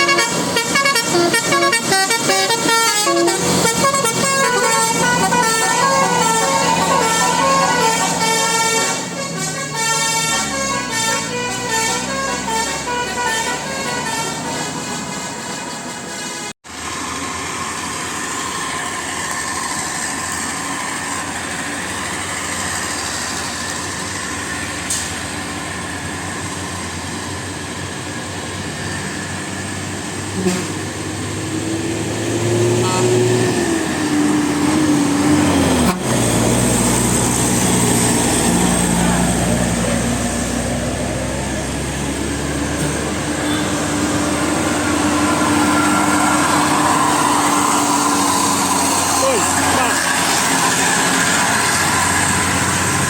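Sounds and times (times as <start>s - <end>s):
heavy vehicle engine passing: 0.0s - 53.0s
road traffic noise: 0.0s - 53.0s.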